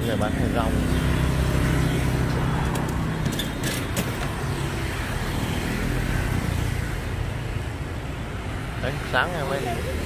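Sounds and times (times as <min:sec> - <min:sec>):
traffic engines humming: 0:00.0 - 0:10.0.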